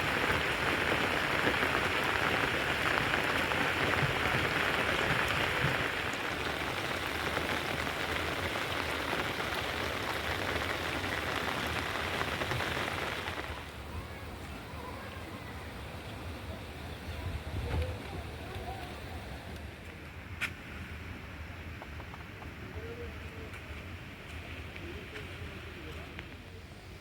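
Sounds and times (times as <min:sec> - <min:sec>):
hiss of water: 0:00.0 - 0:21.1, 0:23.0 - 0:27.0.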